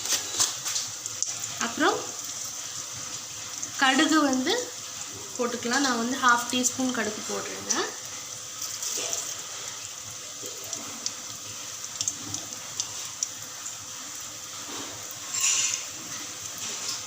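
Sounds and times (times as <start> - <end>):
seeds sizzling in hot oil: 0.0 - 17.0.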